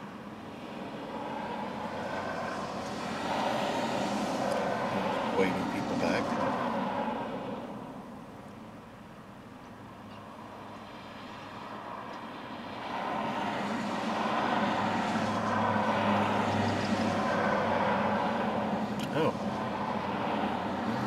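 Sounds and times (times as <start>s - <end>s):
cars passing by: 0.0s - 21.0s
vehicle passing close: 0.8s - 8.0s, 11.0s - 21.0s.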